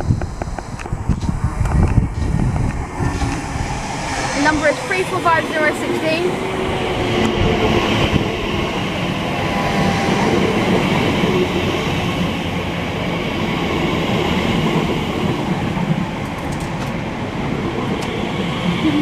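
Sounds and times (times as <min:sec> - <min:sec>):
electric train noise: 0:00.0 - 0:19.0.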